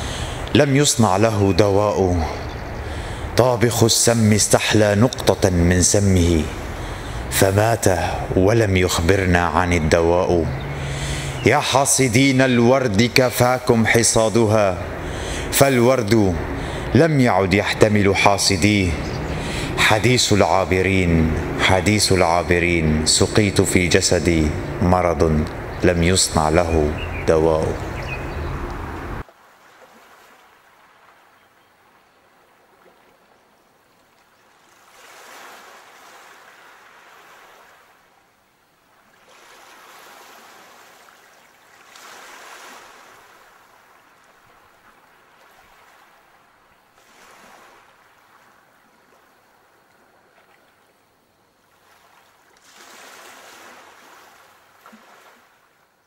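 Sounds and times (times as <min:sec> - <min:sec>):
sea waves washing onto shore: 0:00.0 - 0:33.3, 0:34.1 - 0:50.9, 0:51.6 - 0:55.9.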